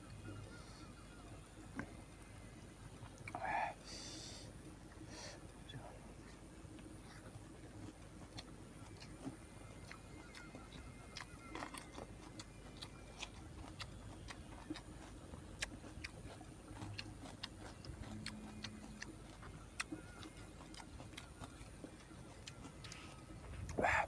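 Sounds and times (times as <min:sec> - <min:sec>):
chewing and handling food: 0:00.0 - 0:24.0
faint high-pitched hum: 0:00.0 - 0:24.0.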